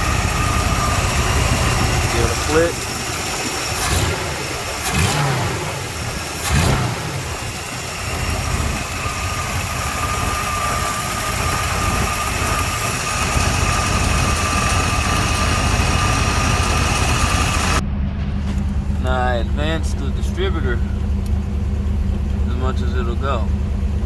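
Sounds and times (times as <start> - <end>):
car engine idling and revving: 0.0 - 24.0
thin steady whine: 0.0 - 24.0.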